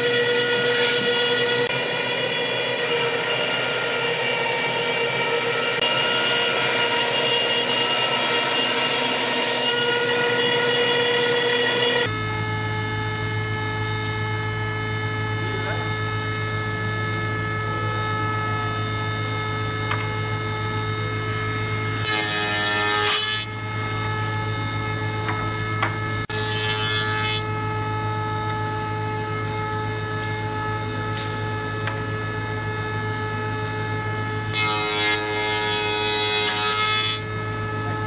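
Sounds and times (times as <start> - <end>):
wood shaper humming and whining: 0.0 - 38.0.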